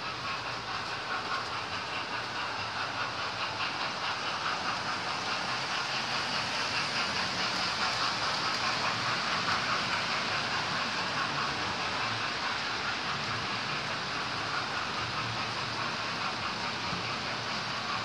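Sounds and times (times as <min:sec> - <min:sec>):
model train motors whirring: 0:00.0 - 0:18.0
rail joints clicking: 0:00.0 - 0:18.0.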